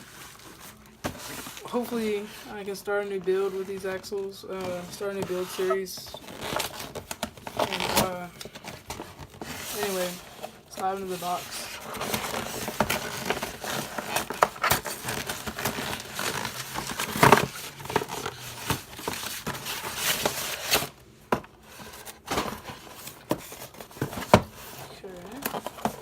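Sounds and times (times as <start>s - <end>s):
packaging crinkling and rustling: 0.0s - 26.0s.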